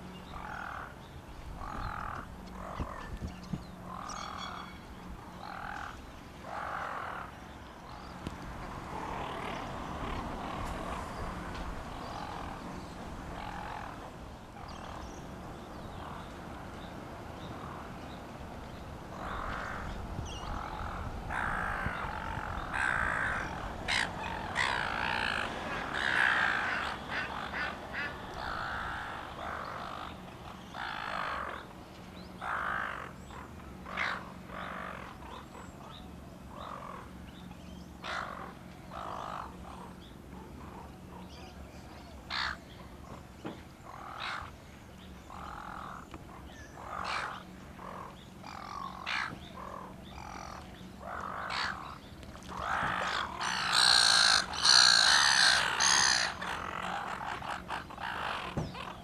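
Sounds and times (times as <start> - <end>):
birds calling: 0.0 - 59.0
steady low hum: 0.0 - 59.0.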